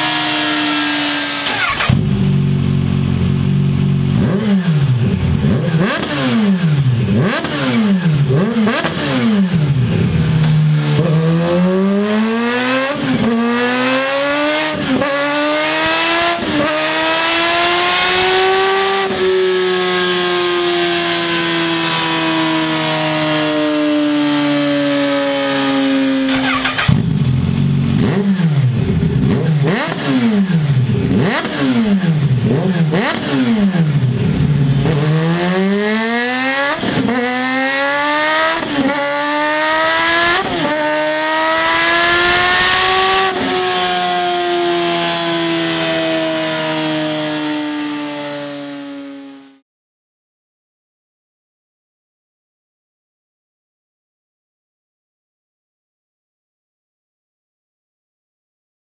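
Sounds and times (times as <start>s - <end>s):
motorcycle engine revving on dyno: 0.0s - 49.6s.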